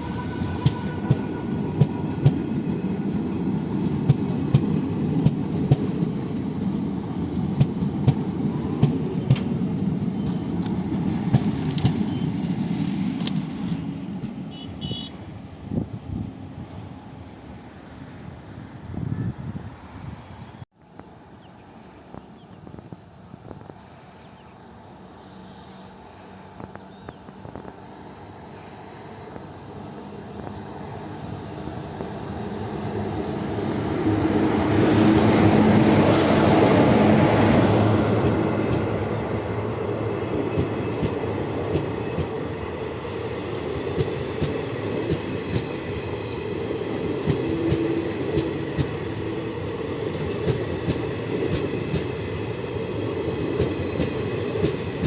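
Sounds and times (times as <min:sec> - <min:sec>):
electric locomotive passing: 0:00.0 - 0:55.0.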